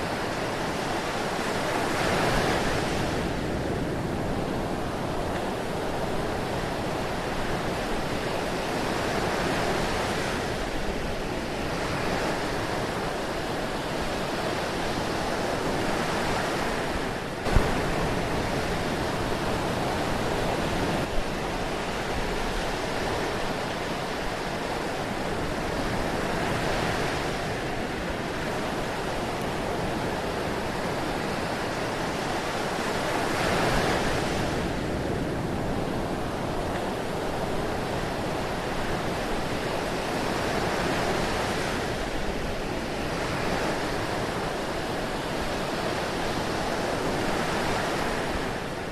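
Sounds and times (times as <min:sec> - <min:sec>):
ocean waves rushing: 0:00.0 - 0:48.9.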